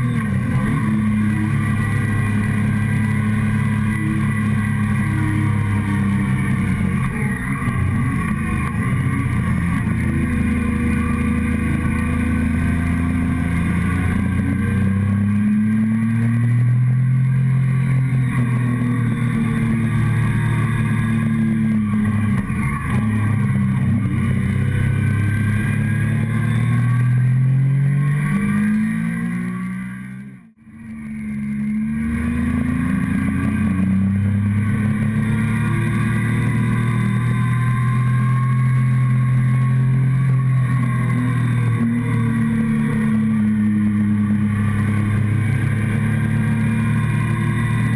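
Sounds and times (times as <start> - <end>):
motorcycle engine at speed: 0.0 - 47.9.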